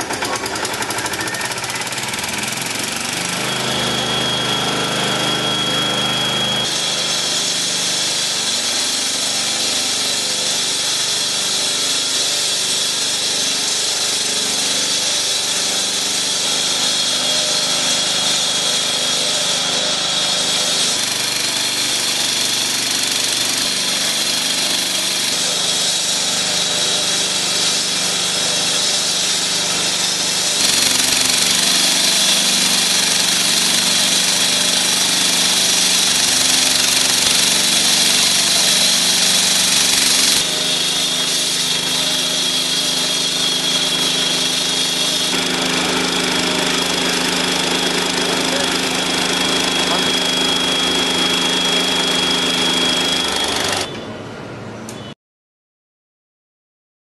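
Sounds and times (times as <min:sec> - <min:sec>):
saw blade grinding concrete: 0:00.0 - 0:53.9
saw engine running: 0:00.0 - 0:54.0.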